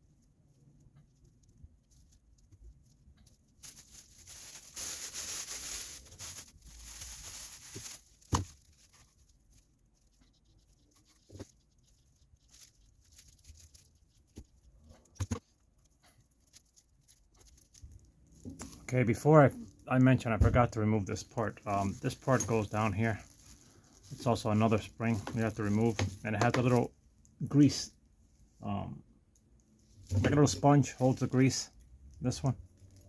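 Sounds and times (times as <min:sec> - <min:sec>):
scratchy rustling and scraping: 0:00.3 - 0:26.9.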